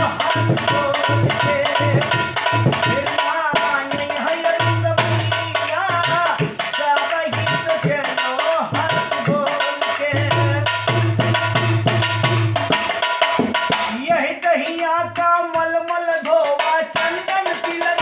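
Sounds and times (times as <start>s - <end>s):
man singing folk song: 0.0s - 10.8s, 13.9s - 18.0s
hand drum rhythm: 0.0s - 18.0s.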